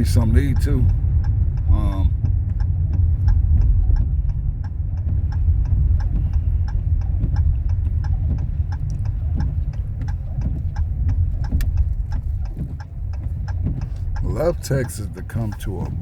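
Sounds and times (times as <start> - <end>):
car driving on snowy road: 0.0 - 16.0
turn signal clicking: 0.0 - 16.0.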